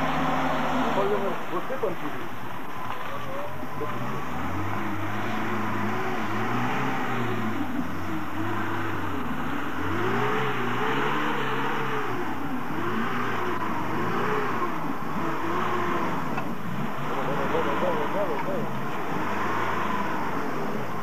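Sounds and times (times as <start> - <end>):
car engine revving: 0.0 - 21.0
water splashing around wheels: 0.0 - 21.0.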